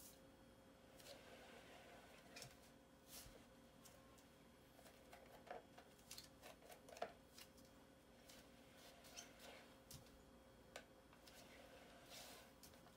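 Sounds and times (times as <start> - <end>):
faint steady hum: 0.0 - 12.9.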